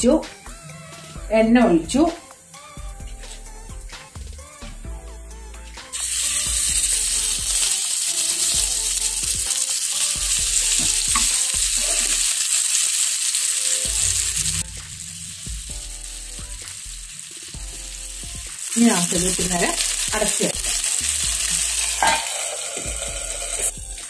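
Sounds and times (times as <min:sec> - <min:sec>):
fish sizzling in hot oil: 0:00.3 - 0:04.6, 0:05.8 - 0:24.0.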